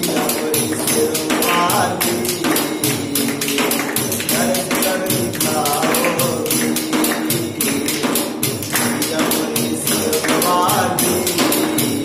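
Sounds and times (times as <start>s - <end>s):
devotional song: 0.0s - 12.0s
hand jingle percussion: 0.0s - 12.0s.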